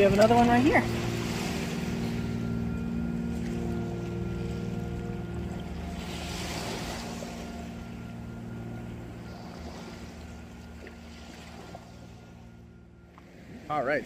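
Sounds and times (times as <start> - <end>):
wave washing in: 0.0 - 12.6
motorboat engine droning: 0.0 - 14.0.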